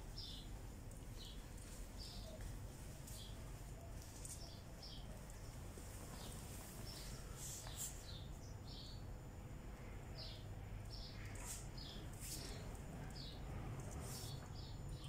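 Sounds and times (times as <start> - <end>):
faint low hum: 0.0 - 15.0
small birds chirping: 0.0 - 15.0.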